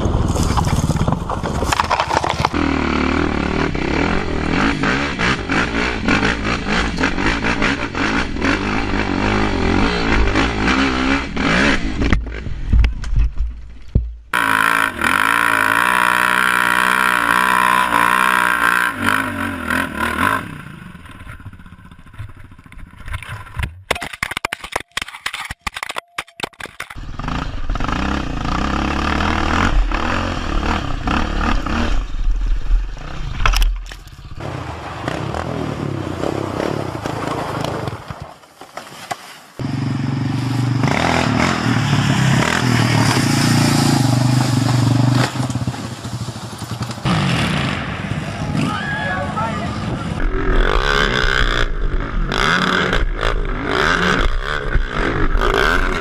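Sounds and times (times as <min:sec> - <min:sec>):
motorcycle engines revving: 0:02.2 - 0:12.7, 0:14.3 - 0:22.7, 0:27.0 - 0:33.4, 0:34.2 - 0:38.1, 0:39.6 - 0:56.0.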